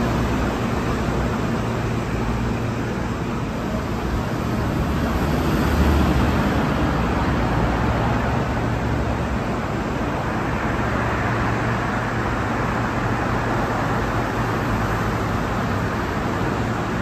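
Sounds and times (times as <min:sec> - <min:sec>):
rumble and hum of train station: 0:00.0 - 0:17.0.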